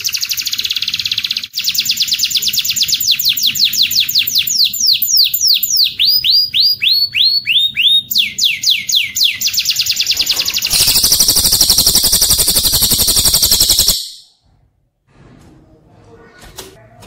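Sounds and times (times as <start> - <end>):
songbird whistling and trilling: 0.0 - 14.3.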